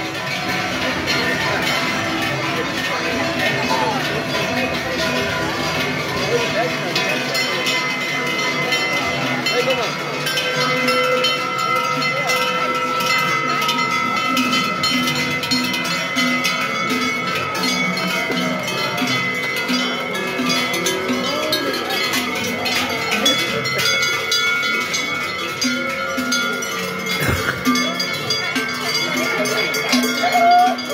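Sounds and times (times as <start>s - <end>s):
cowbells clanging: 0.0s - 30.9s
faint voices of onlookers: 0.0s - 30.9s.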